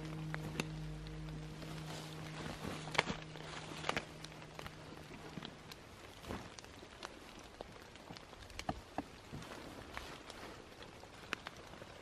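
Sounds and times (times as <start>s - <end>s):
rain hissing: 0.0s - 12.0s
raindrops tapping: 0.0s - 12.0s.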